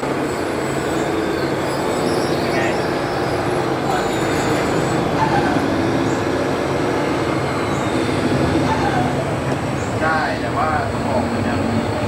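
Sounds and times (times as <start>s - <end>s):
engine rumble with low hum: 0.0s - 12.0s.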